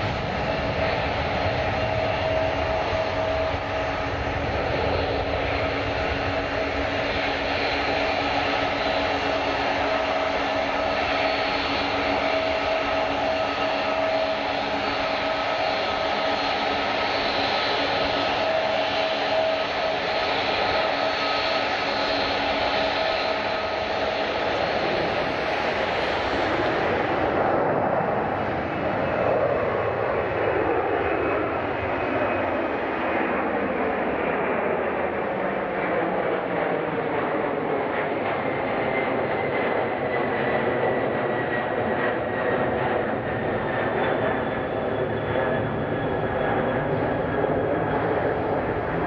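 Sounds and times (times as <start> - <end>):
jet engines rushing: 0.0 - 49.0
steady engine whine: 0.0 - 49.0.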